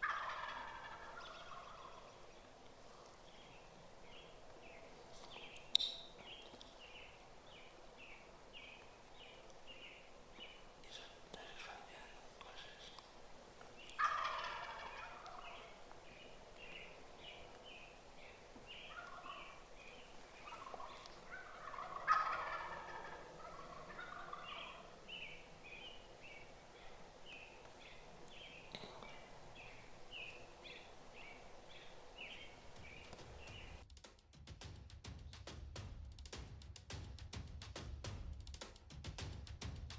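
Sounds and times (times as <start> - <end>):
turkey gobbling: 0.0 - 11.6, 12.3 - 33.8.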